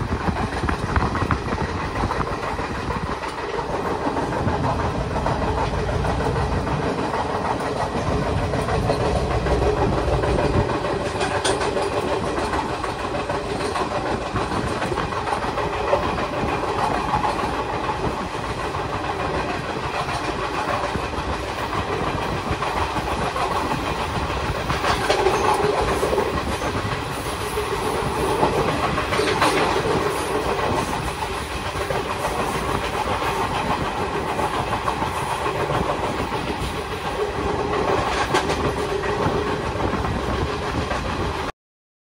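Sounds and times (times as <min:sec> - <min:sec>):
rail clicks: 0:00.0 - 0:41.5
train wheels on track: 0:00.0 - 0:41.5.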